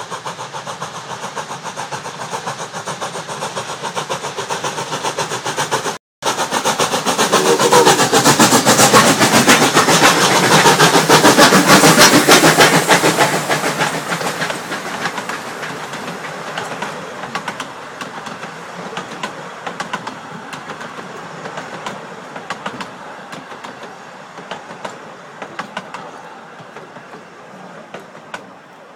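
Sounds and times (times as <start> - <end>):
steam locomotive beats: 0.0 - 28.9
wheels clicking over rail joints: 5.3 - 28.9.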